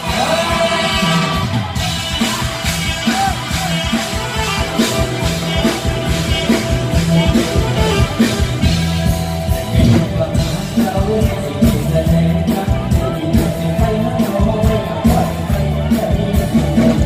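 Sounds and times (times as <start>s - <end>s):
live band music through pa: 0.0s - 17.0s.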